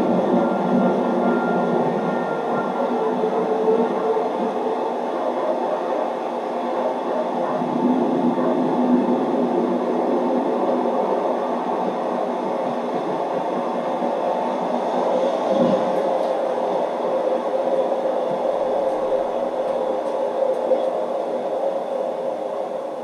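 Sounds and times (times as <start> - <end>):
train rumbling along track: 0.0 - 23.0.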